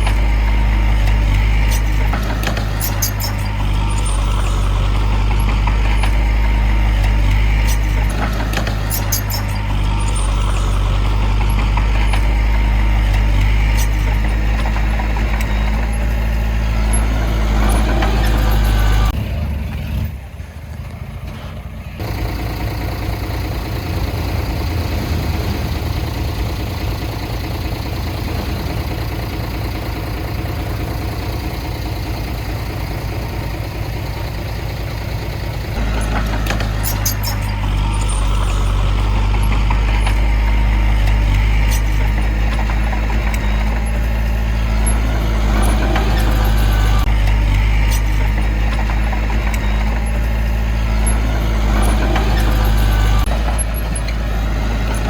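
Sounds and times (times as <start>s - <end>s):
diesel machinery engines droning: 0.0s - 55.0s.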